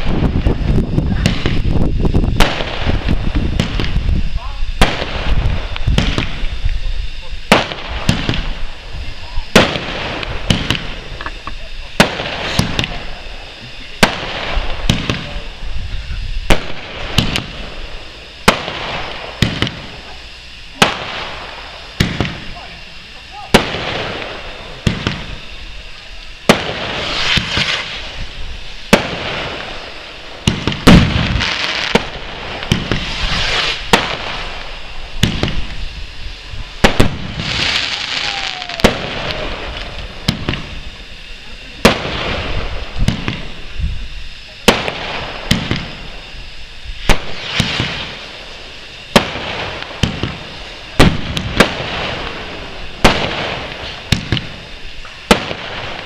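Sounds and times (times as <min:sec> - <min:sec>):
firework bangs: 0:00.0 - 0:56.0
firework crackling: 0:00.0 - 0:56.0.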